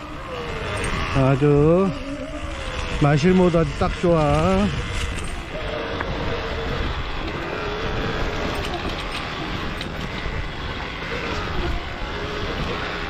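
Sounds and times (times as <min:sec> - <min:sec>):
motorcycle engine running: 0:00.0 - 0:13.0
wind and ground rumble: 0:00.0 - 0:13.0.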